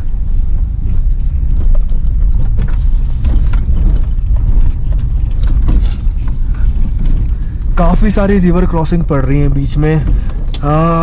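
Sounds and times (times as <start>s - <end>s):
car rumbling over rocky track: 0.0s - 11.0s
suspension clicks and knocks: 0.0s - 11.0s.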